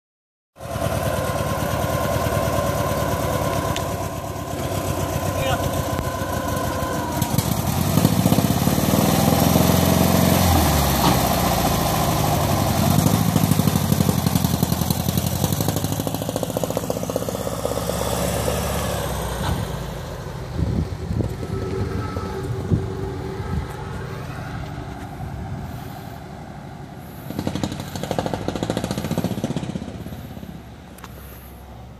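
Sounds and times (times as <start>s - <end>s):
car engine accelerating: 0.6s - 31.9s.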